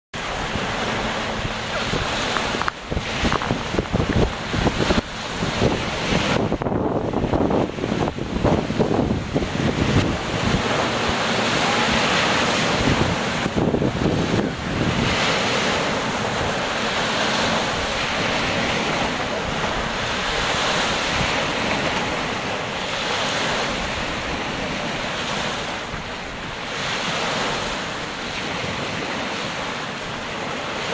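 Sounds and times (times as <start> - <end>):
waves breaking on shore: 0.2 - 30.9
wind buffeting microphone: 0.2 - 30.9.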